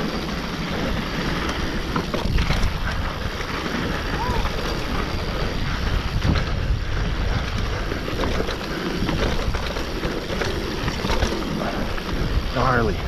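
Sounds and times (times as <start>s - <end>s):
bike clicks and rattles: 0.0s - 13.0s
tyres rumbling over dirt: 0.0s - 13.0s
wind rushing over microphone: 0.0s - 13.0s.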